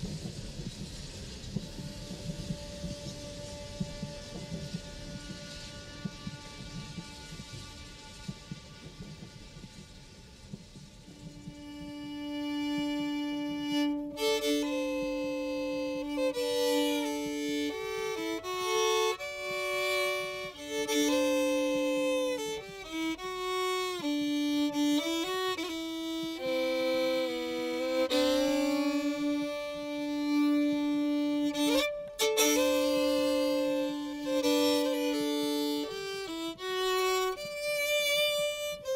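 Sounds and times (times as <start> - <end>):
slow violin melody: 0.0 - 38.9.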